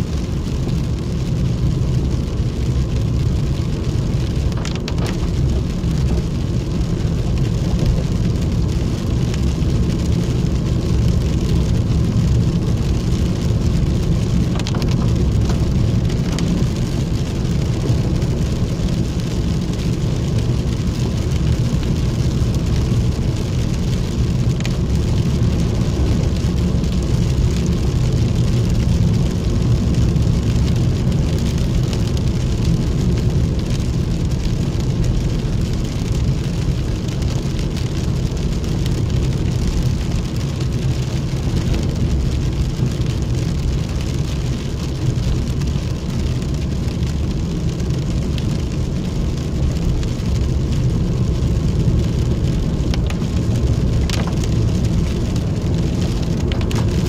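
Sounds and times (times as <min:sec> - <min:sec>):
rain on vehicle: 0:00.0 - 0:57.0
vehicle driving on wet road: 0:00.0 - 0:57.0.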